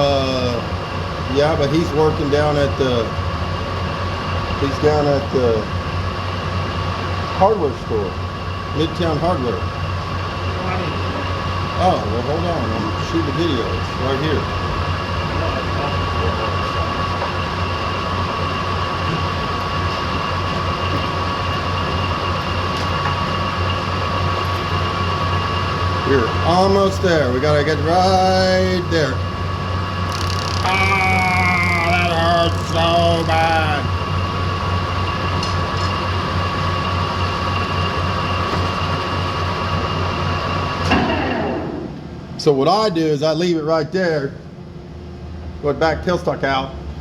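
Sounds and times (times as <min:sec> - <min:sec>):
high whine of lathe: 0:00.0 - 0:40.9
lathe machine drone: 0:00.0 - 0:41.0.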